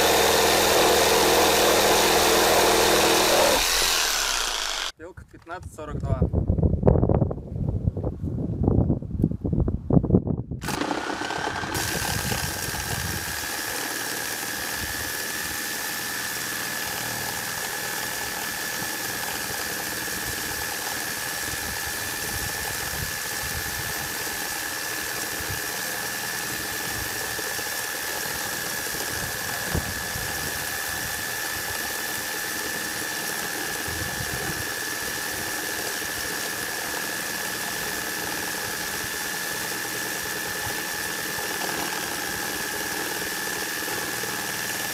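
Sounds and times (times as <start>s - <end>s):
reciprocating saw cutting timber: 0.0s - 5.0s, 10.6s - 44.9s.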